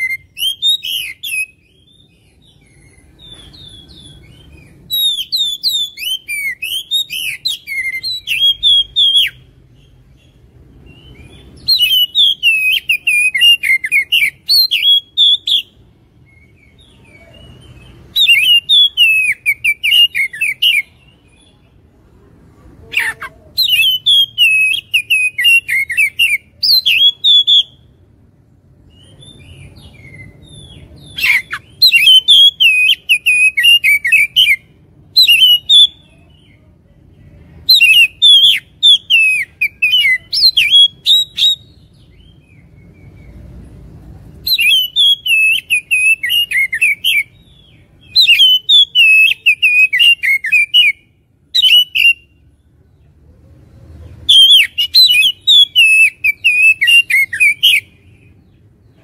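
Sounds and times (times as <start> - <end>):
bird singing whistled notes: 0.0 - 21.6, 23.0 - 28.0, 28.8 - 36.7, 37.6 - 43.6, 44.4 - 52.5, 53.8 - 58.7.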